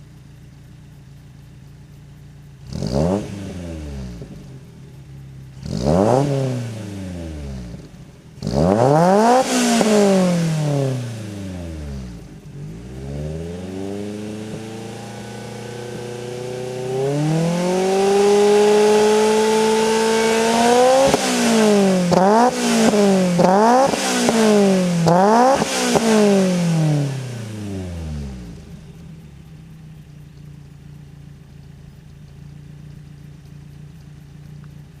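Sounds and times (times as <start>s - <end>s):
car engine revving and idling: 0.0s - 35.0s.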